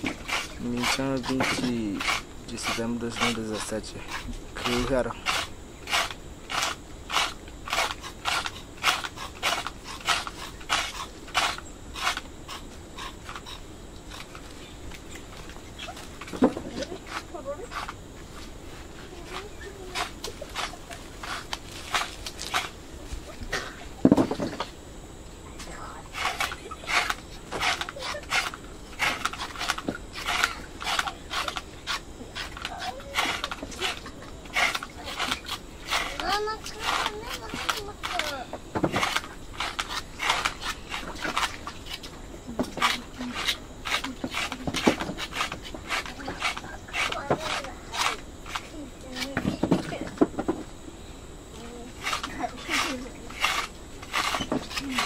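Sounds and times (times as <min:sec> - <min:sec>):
knives scraping root skin: 0:00.0 - 0:16.3, 0:19.3 - 0:22.8, 0:26.2 - 0:42.1, 0:42.8 - 0:49.3, 0:52.0 - 0:55.0.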